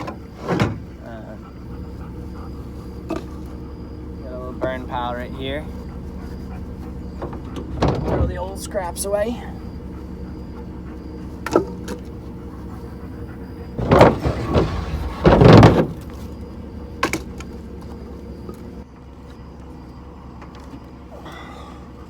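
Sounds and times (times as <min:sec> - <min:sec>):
wooden lumber clattering: 0:00.0 - 0:18.8
vehicle engine idling: 0:00.0 - 0:22.0.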